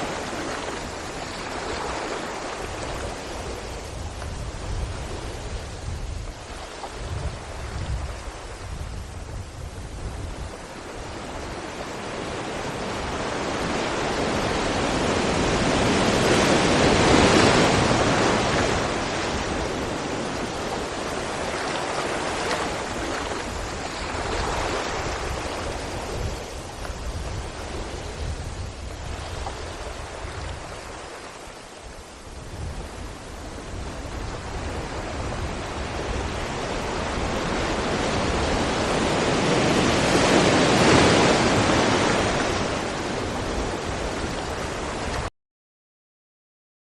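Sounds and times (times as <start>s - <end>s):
sea waves breaking on rocks: 0.0s - 9.3s, 11.0s - 31.5s, 32.6s - 45.3s.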